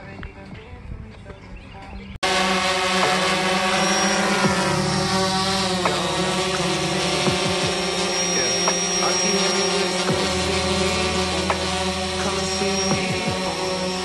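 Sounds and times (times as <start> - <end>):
drone motors and propellers whining: 2.2 - 14.0.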